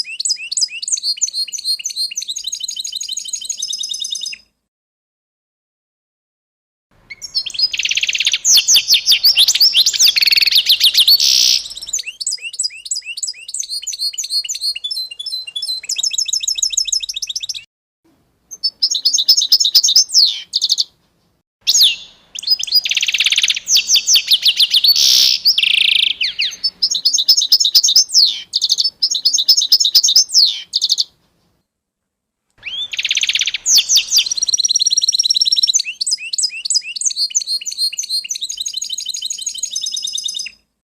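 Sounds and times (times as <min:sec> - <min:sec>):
songbird trilling and chirping: 0:00.0 - 0:04.4, 0:07.1 - 0:17.7, 0:18.5 - 0:20.9, 0:21.7 - 0:31.1, 0:32.6 - 0:40.6.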